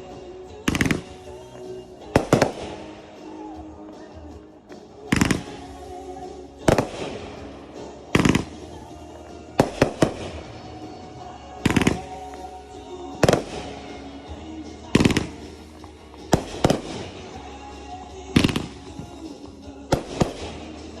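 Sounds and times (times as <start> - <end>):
music playing: 0.0 - 21.0
fireworks bangs: 0.1 - 21.0.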